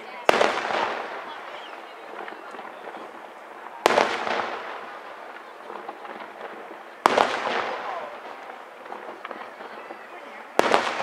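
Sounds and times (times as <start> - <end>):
fireworks bangs echoing: 0.0 - 11.0.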